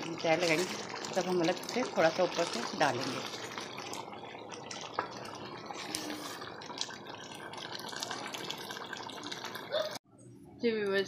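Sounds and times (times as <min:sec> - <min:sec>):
food sizzling in metal pot: 0:00.0 - 0:10.0.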